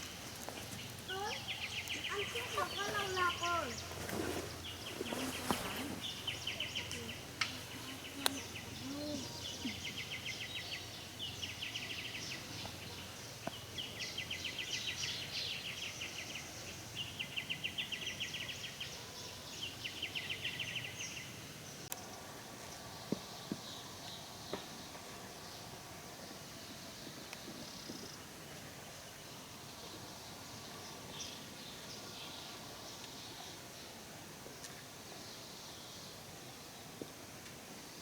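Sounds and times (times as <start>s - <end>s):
faint outdoor background noise: 0.0s - 38.0s.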